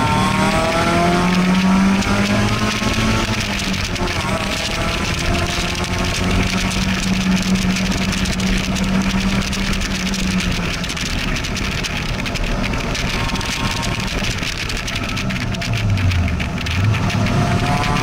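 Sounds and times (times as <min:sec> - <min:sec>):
car engine pulling: 0:00.0 - 0:18.0.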